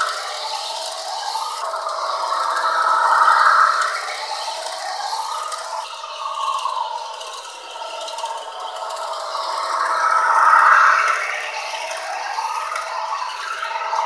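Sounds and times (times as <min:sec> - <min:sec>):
geared motor whirring: 0:00.0 - 0:14.0.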